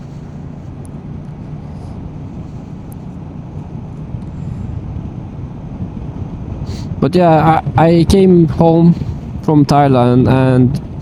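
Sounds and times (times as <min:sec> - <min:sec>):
motorcycle engine rumble: 0:00.0 - 0:11.0
road noise: 0:00.0 - 0:11.0.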